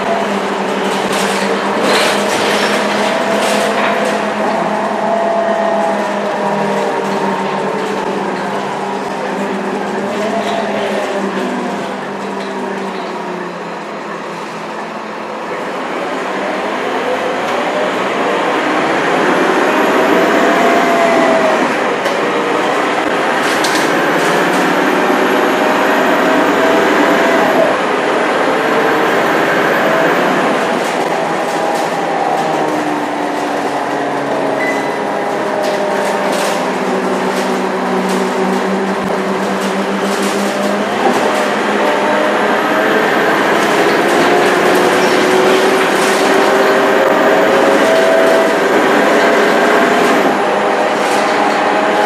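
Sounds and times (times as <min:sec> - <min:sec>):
bus diesel engine pulling away: 0:00.0 - 0:52.0.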